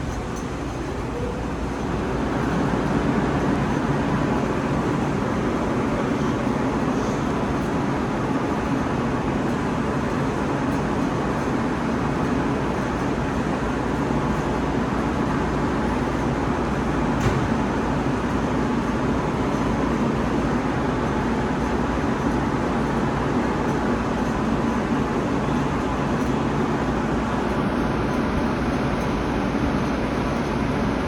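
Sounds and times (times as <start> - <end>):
metro station rumble and hiss: 0.0 - 31.0.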